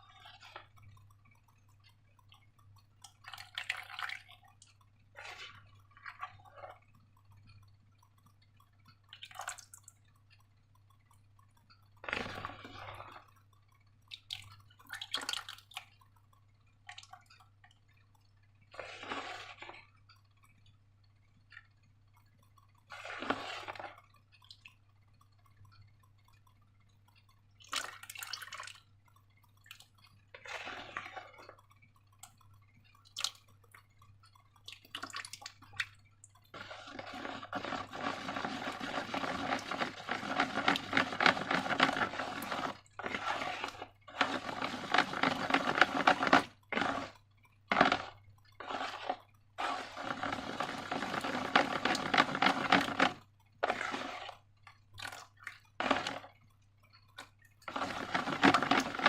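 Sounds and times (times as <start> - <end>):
wet slime squelching: 0.0 - 59.0.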